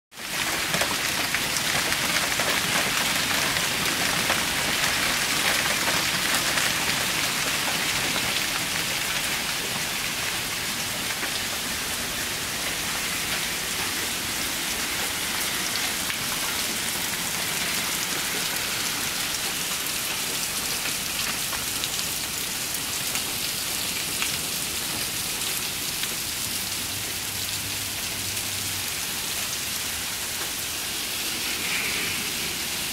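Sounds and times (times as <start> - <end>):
hail and heavy rain: 0.1 - 32.9.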